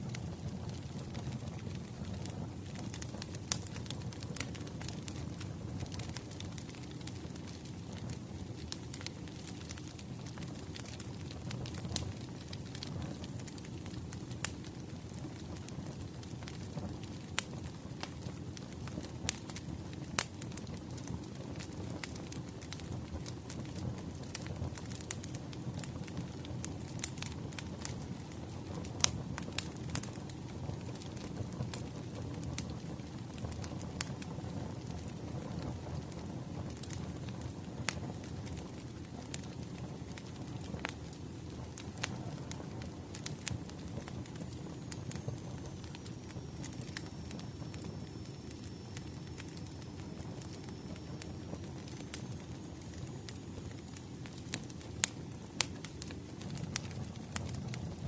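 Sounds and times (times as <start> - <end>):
fire popping: 0.0 - 58.0
low rumble of burning logs: 0.0 - 58.0
wood fire crackling: 0.0 - 58.0.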